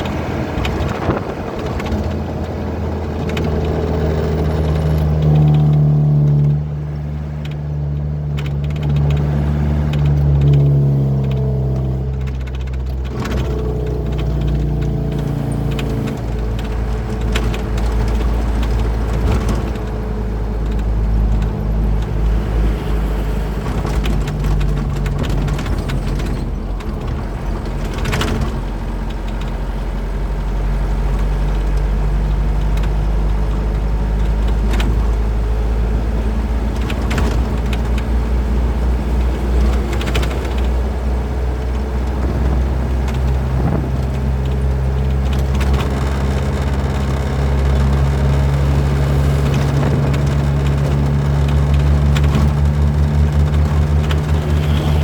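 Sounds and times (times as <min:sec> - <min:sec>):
truck engine humming: 0:00.0 - 0:55.0.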